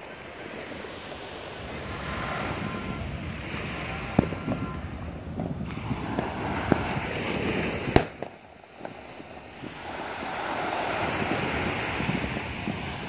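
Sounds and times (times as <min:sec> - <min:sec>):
surf: 0:00.0 - 0:13.0
wind: 0:00.0 - 0:13.0
distant fireworks bangs: 0:00.7 - 0:13.0.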